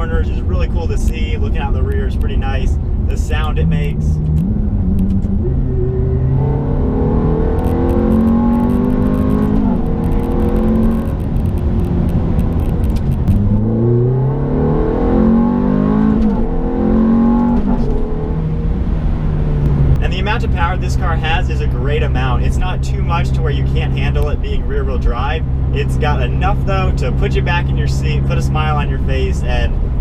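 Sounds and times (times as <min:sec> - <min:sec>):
car engine accelerating with upshifts: 0:00.1 - 0:30.0.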